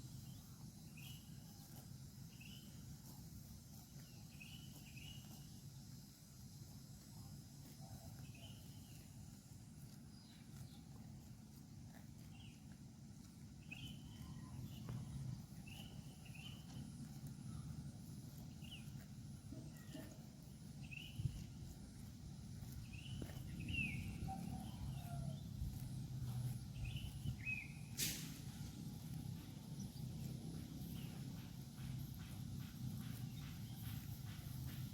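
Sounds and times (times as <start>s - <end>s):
cow tearing and chewing grass: 0.0s - 34.9s.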